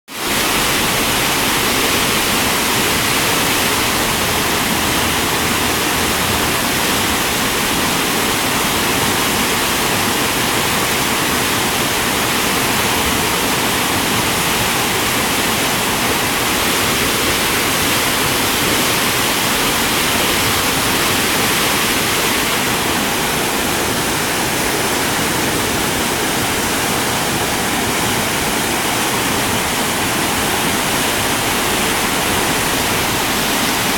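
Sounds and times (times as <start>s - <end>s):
water rushing over rocks: 0.1s - 33.9s.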